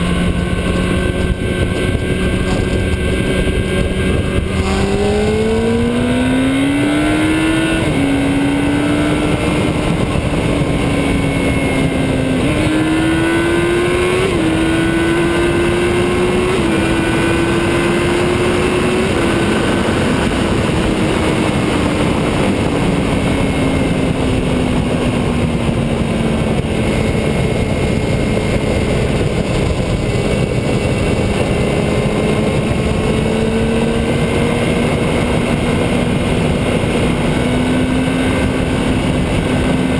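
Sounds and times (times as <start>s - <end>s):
constant rushing noise: 0.0s - 39.9s
motorcycle engine changing gears: 0.0s - 39.9s.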